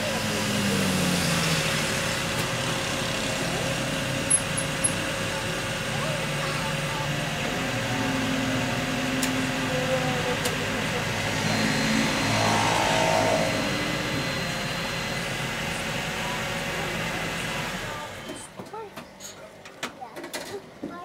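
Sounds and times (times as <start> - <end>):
electric roof motor droning: 0.0 - 18.2.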